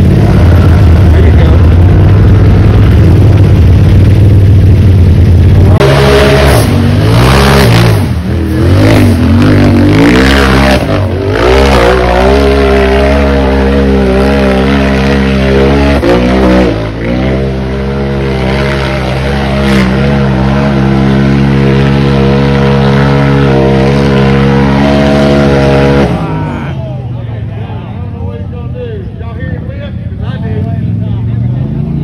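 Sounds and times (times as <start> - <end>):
racing engine revving: 0.0 - 27.1, 29.4 - 32.0.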